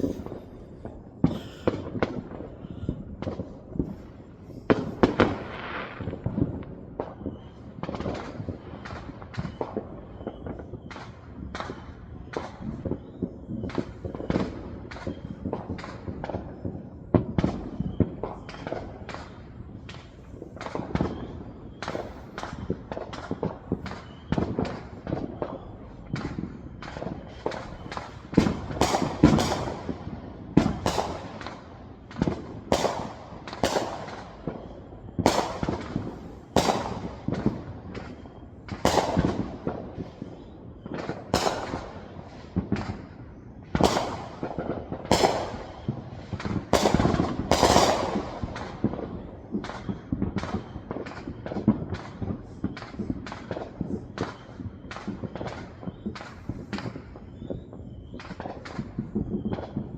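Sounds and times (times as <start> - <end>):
fireworks bangs and pops: 0.0 - 59.9.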